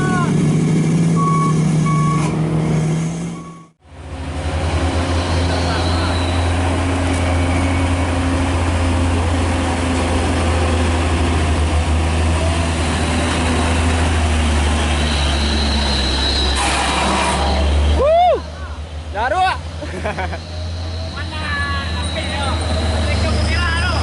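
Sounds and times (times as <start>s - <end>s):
heavy truck engine droning: 0.0s - 24.0s.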